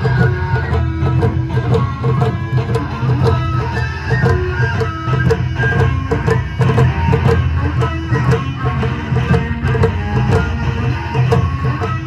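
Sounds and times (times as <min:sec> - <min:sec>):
bamboo flutes: 0:00.0 - 0:12.0.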